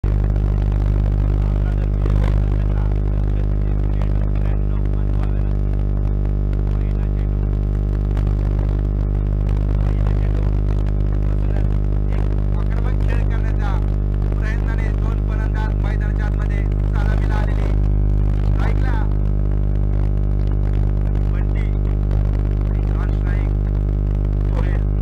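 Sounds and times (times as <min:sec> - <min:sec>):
faint voices: 0:00.0 - 0:19.3, 0:20.4 - 0:23.7
loud steady low hum: 0:00.0 - 0:25.0.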